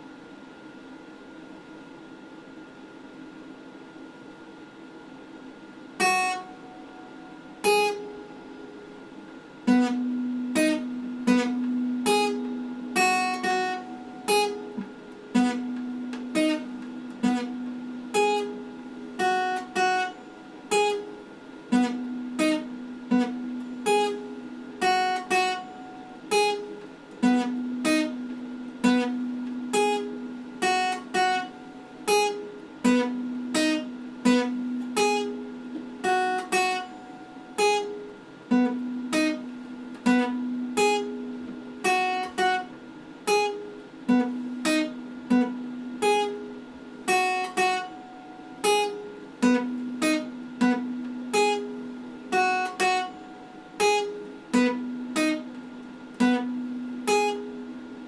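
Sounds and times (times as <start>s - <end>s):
acoustic guitar chords: 5.9s - 58.0s.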